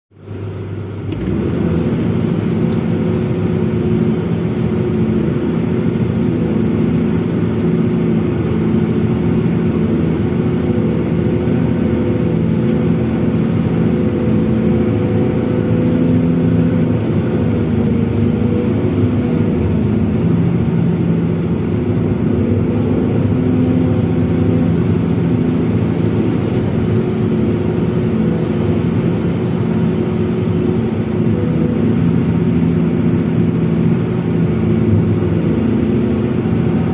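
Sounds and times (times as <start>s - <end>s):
excavator diesel engine droning: 0.2s - 36.9s.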